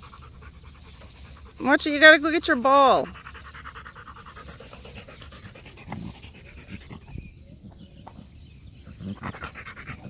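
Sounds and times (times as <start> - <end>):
dog panting: 0.0 - 7.4, 9.0 - 10.0.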